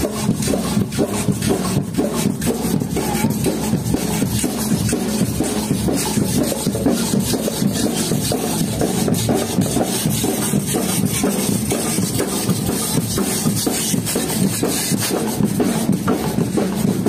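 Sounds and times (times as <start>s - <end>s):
metal guiros scraped in rhythm: 0.0s - 15.4s.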